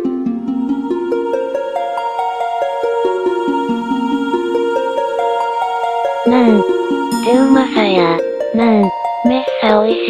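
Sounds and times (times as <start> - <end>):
plucked harp-like arpeggios: 0.0 - 10.0.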